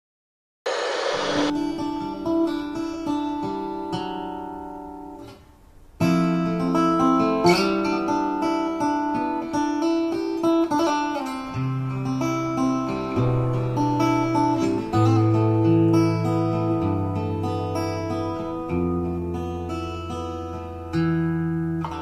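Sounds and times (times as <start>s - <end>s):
acoustic guitar playing: 0.7s - 22.0s.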